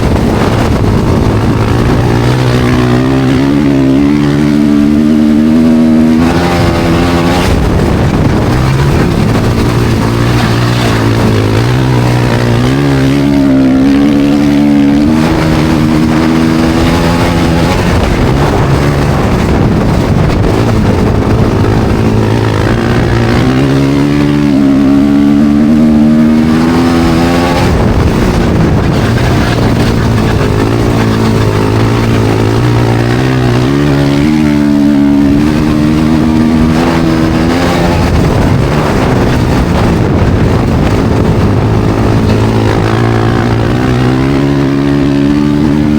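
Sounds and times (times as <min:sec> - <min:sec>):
racing motorcycles revving: 0:00.0 - 0:45.9.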